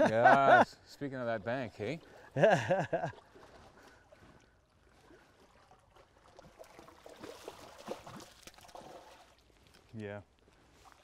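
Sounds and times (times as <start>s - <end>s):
stream water splashing and lapping: 1.1s - 11.0s.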